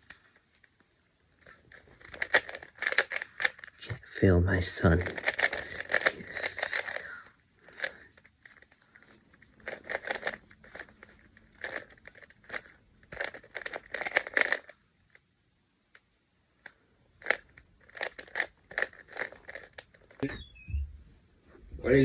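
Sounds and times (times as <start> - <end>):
puzzle cube clicking: 1.4 - 15.2, 15.9 - 20.2.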